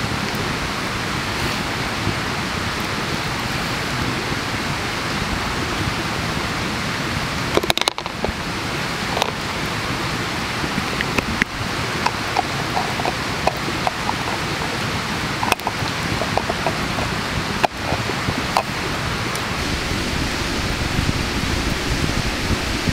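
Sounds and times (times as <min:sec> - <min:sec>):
campfire crackling and popping: 0:00.0 - 0:05.6, 0:07.0 - 0:20.0
rushing hiss: 0:00.0 - 0:22.9.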